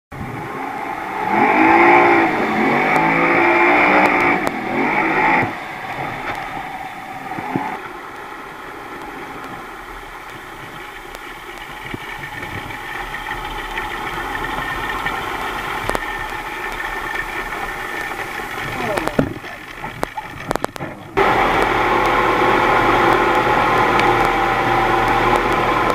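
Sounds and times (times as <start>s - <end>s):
outboard motor revving: 0.1s - 25.9s.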